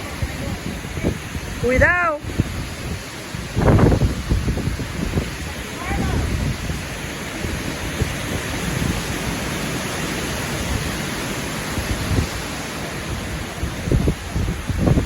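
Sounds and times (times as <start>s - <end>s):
strong wind rushing: 0.0s - 15.0s
wind buffeting microphone: 0.0s - 15.0s.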